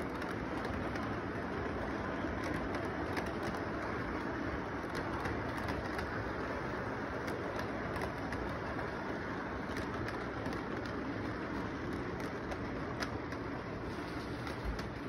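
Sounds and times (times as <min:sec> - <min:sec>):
model train rumbling on track: 0:00.0 - 0:15.0
steady background noise: 0:00.0 - 0:15.0
wheels clicking over rail joints: 0:00.0 - 0:15.0.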